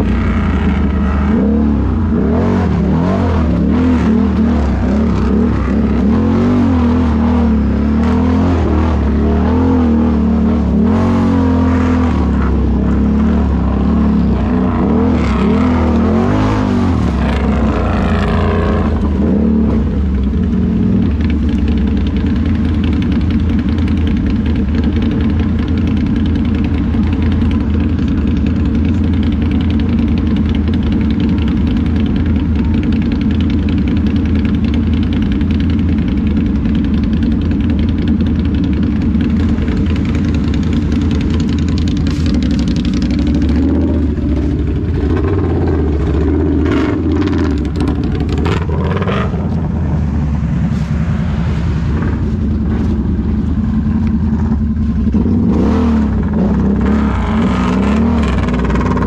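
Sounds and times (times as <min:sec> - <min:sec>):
atv engine running: 0:00.0 - 0:59.0
harsh rough noise: 0:00.0 - 0:59.0.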